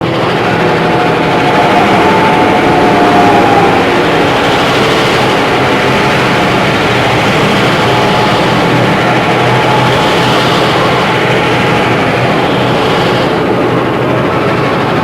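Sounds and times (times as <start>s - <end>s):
train running: 0.0s - 15.0s.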